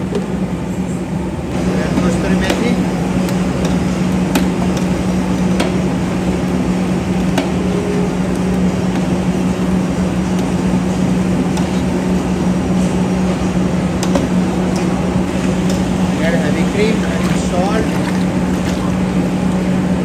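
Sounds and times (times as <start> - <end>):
gas burner roaring: 0.0 - 20.0.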